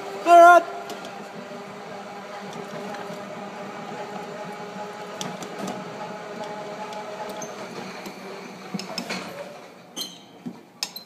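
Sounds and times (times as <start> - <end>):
golf cart motor hum: 0.0 - 9.9.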